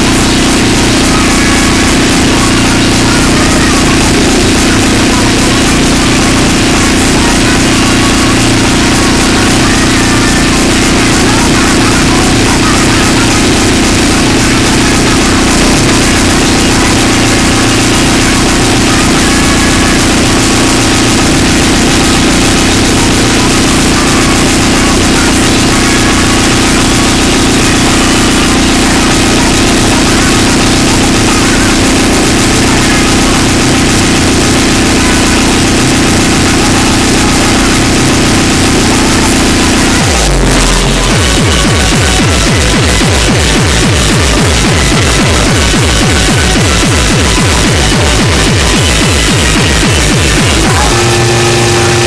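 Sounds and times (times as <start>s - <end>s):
distorted noise wall: 0.0s - 52.0s
steady low drone: 0.0s - 52.0s.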